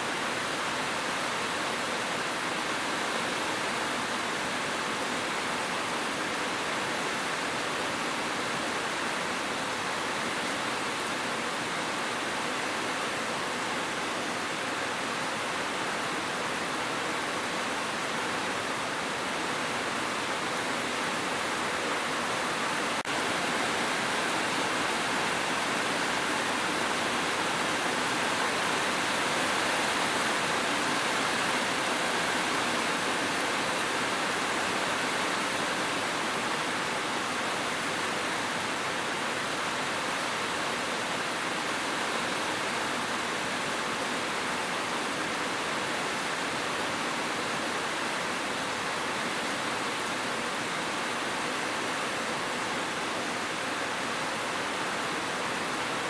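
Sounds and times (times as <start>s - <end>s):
steady dense rain: 0.0s - 56.0s.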